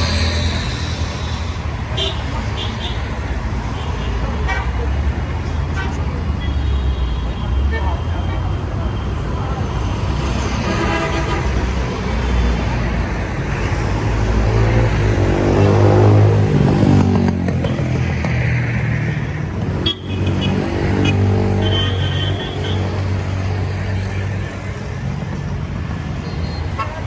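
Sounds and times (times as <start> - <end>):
cars and motorcycles passing: 0.0 - 27.0.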